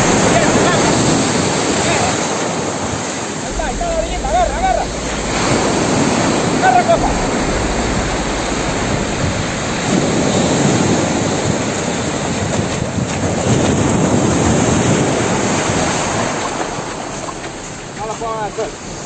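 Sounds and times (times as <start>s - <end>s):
waves washing on shore: 0.0s - 19.0s
wind on microphone: 0.0s - 19.0s.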